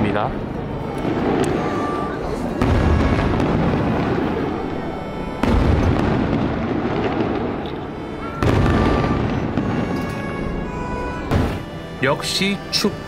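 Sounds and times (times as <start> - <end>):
fireworks booming: 0.6 - 11.9.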